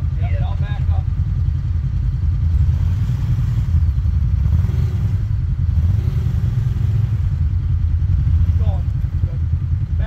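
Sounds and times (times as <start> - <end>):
engine rumbling under load: 0.0 - 10.0.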